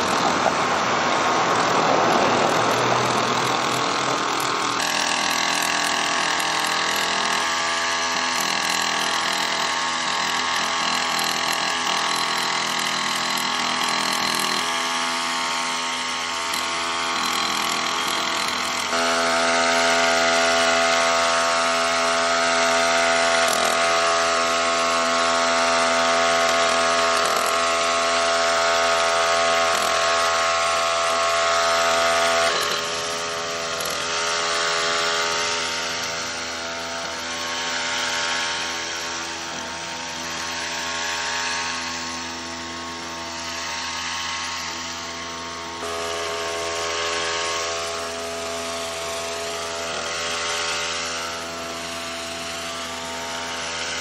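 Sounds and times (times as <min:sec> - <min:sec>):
small gas engine running: 0:00.0 - 0:54.0.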